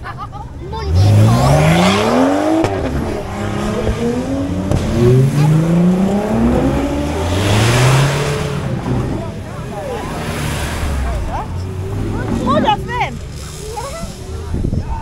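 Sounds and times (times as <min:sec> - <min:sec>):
sports car accelerating: 0:00.6 - 0:14.4.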